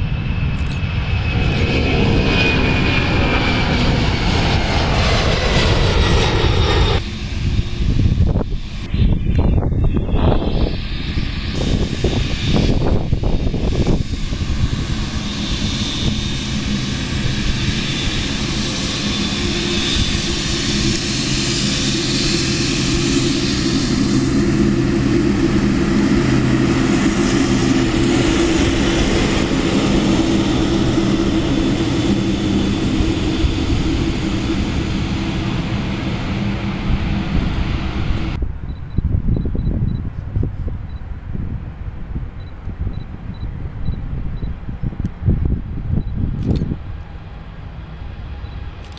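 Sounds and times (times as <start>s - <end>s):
aircraft engines droning: 0.0s - 48.9s.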